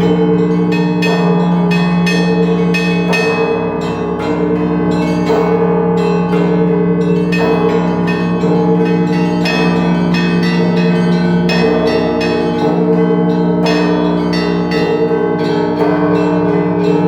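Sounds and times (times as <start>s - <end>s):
deep hum of large bells: 0.0s - 17.0s.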